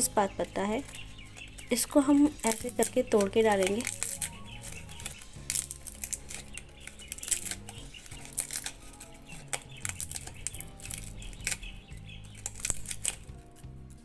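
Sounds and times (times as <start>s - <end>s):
dry leaves crackling and snapping: 0.0s - 14.0s
soft background music: 0.0s - 14.0s.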